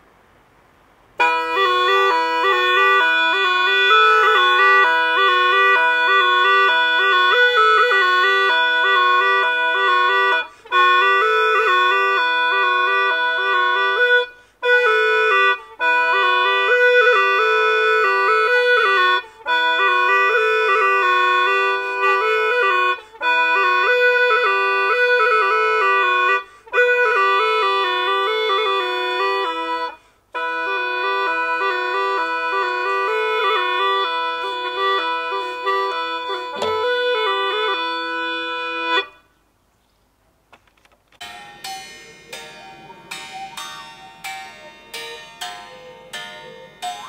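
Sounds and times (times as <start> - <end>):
gourd flute melody with drone: 1.2 - 39.4, 41.2 - 47.0.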